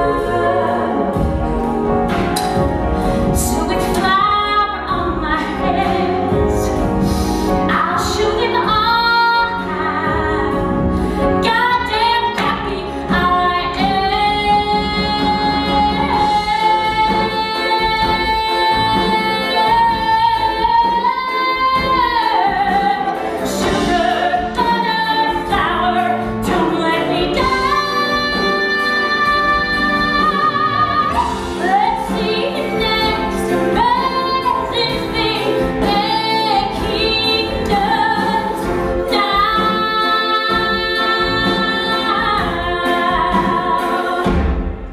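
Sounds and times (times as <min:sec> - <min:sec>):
woman singing: 0:00.0 - 0:01.4, 0:03.3 - 0:07.0, 0:07.6 - 0:44.6
instrumental accompaniment: 0:00.0 - 0:44.9.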